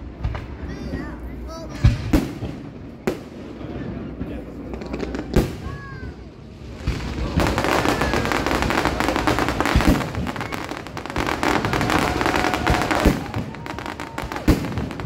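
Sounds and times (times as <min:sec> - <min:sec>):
deep firework booms: 0:00.0 - 0:15.0
fireworks crackling: 0:00.0 - 0:15.0.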